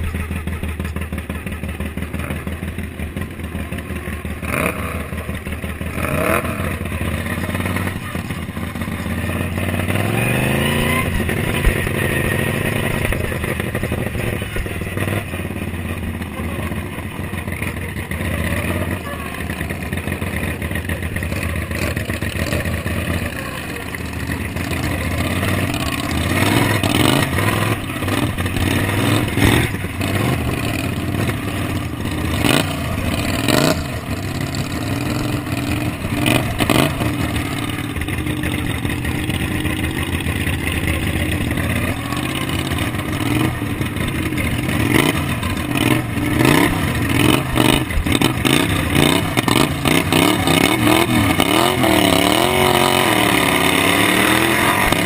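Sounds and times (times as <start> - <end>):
mower knocking and rattling: 0.0 - 23.2, 23.9 - 55.0
lawn mower engine running hard: 0.0 - 55.0.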